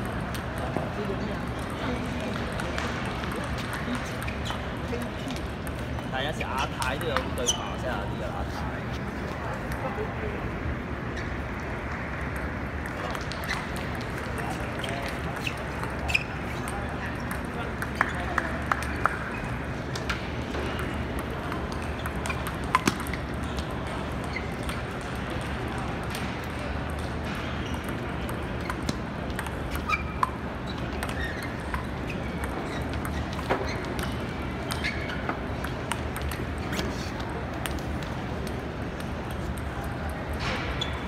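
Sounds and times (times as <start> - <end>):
ping-pong balls clicking: 0.0 - 8.0, 9.3 - 10.1, 11.3 - 41.0
low background hum: 0.0 - 41.0
table tennis hall background noise: 0.0 - 41.0.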